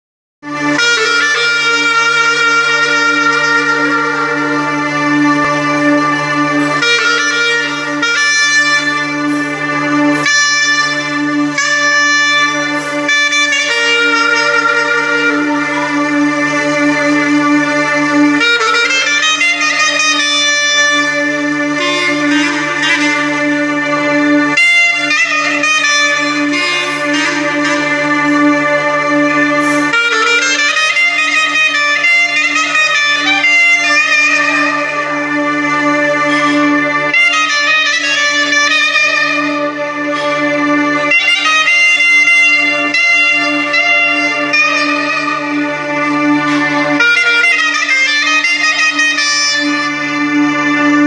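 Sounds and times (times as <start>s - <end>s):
clarinet melody: 0.4s - 51.0s
keyboard low drone: 0.5s - 51.0s.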